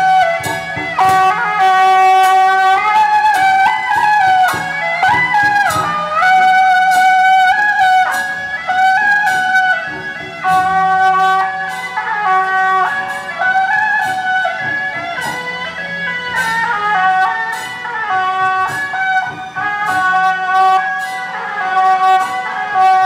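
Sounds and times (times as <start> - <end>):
percussion hits: 0.0 - 23.0
wind instrument melody with slides: 0.0 - 23.0.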